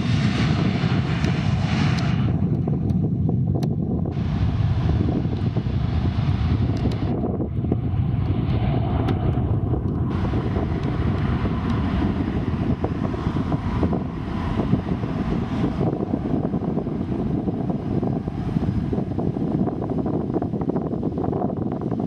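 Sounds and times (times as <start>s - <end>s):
jet engines heavy rumble: 0.0s - 22.0s
wind buffeting microphone: 0.0s - 22.0s.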